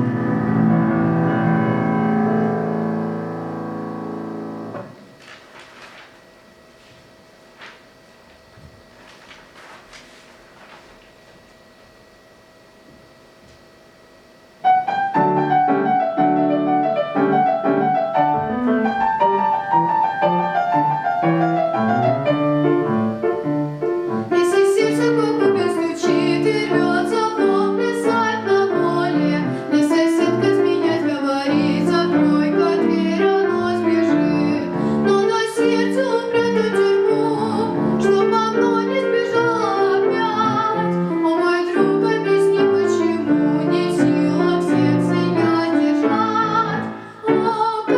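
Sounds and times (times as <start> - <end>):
piano: 0.0 - 47.9.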